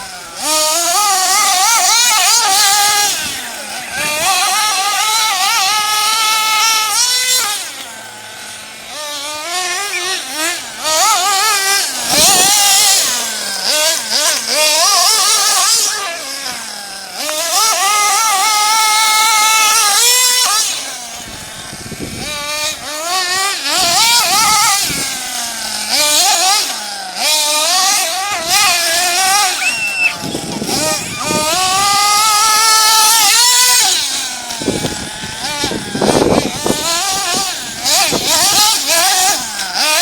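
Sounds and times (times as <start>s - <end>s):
high-pitched nitro engine revving: 0.0s - 40.0s.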